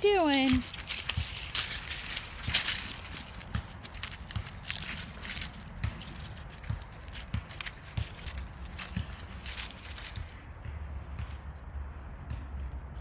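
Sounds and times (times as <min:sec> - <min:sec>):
footsteps walking: 0:00.0 - 0:13.0
light metal jingling: 0:00.0 - 0:13.0.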